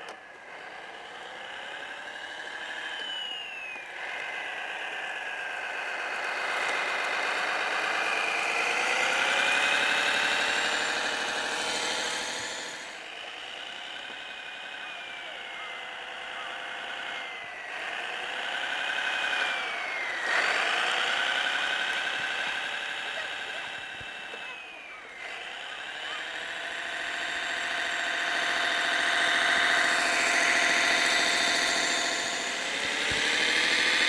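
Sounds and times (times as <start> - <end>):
high whine gliding up and down: 0.0 - 34.0
simulated diesel engine sound: 0.0 - 34.0.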